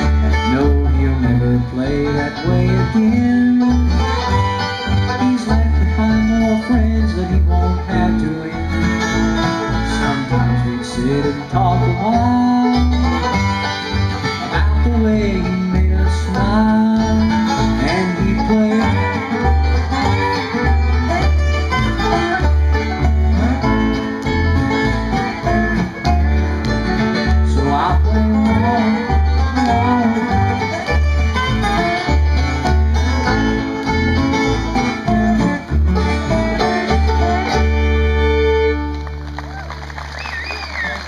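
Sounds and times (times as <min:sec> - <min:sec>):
acoustic guitar: 0:00.0 - 0:41.0
banjo: 0:00.0 - 0:41.0
dobro: 0:00.0 - 0:41.0
fiddle: 0:00.0 - 0:41.0
upright bass: 0:00.0 - 0:41.0.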